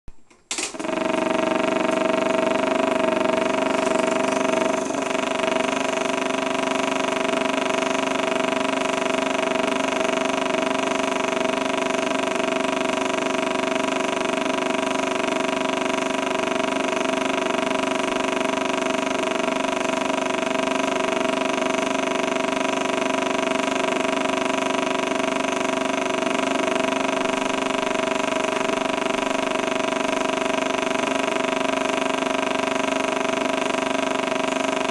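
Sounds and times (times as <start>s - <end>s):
steady mechanical drone: 0.6s - 34.9s.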